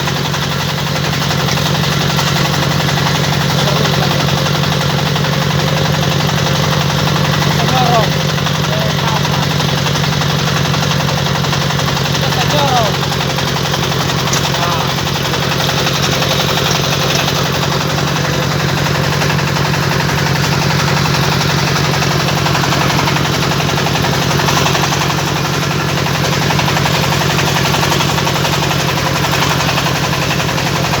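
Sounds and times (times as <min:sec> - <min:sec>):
brick-making machine running: 0:00.0 - 0:31.0.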